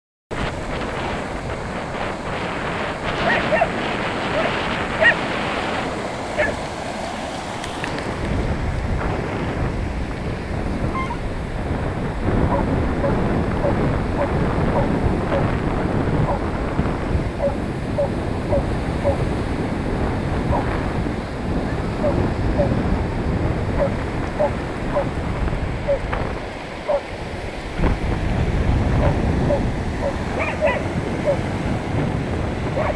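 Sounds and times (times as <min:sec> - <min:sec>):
beach surf rushing: 0:00.3 - 0:32.9
wind buffeting microphone: 0:00.3 - 0:32.9.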